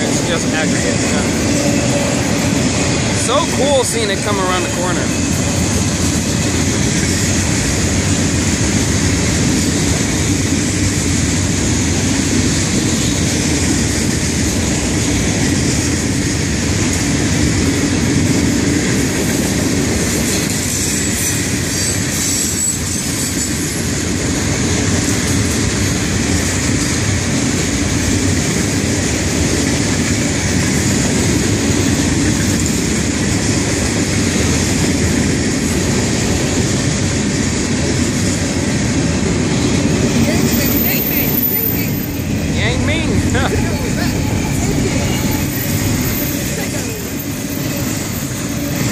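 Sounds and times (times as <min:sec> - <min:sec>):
freight train rolling on rails: 0:00.0 - 0:48.9.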